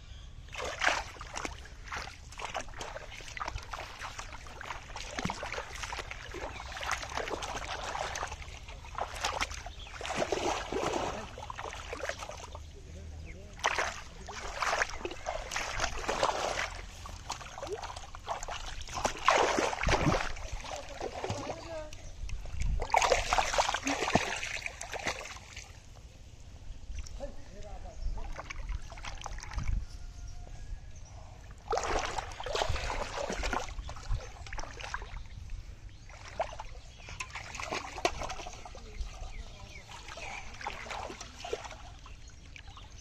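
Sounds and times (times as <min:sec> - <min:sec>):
hand splashing in muddy water: 0:00.5 - 0:12.7, 0:13.5 - 0:25.8, 0:28.2 - 0:29.8, 0:31.6 - 0:35.4, 0:36.0 - 0:42.9.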